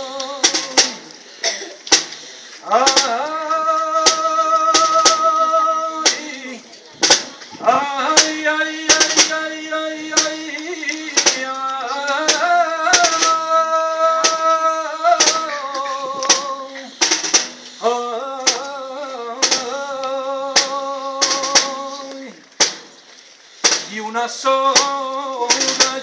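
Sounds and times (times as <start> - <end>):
person singing unaccompanied: 0.0 - 1.7, 2.6 - 22.5, 23.7 - 26.0.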